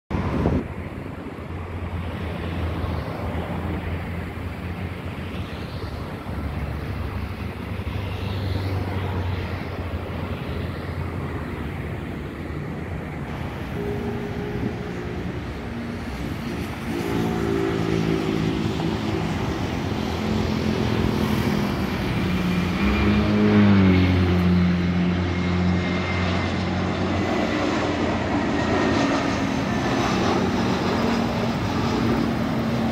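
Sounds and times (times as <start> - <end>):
jet airliner passing overhead: 0.1 - 32.9
jet engine whine: 0.1 - 32.9.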